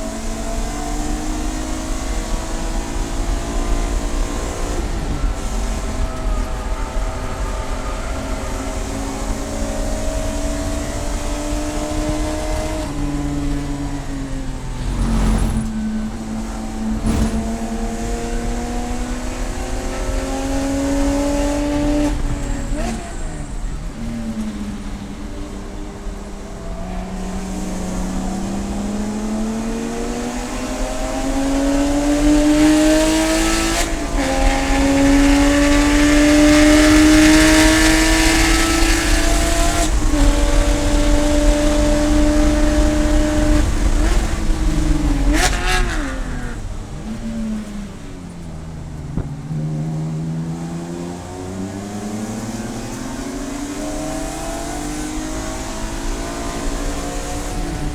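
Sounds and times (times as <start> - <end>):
race car engine accelerating: 0.0 - 57.9.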